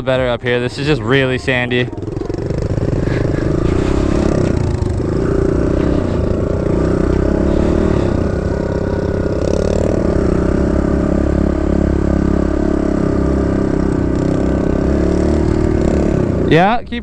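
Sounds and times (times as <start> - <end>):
dirt bike engine running: 0.0 - 17.0
engine clatter: 0.0 - 17.0.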